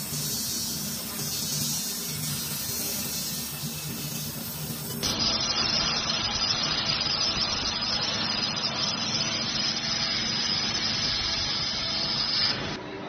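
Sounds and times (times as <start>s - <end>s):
laser welding hiss and crackle: 0.0s - 12.8s.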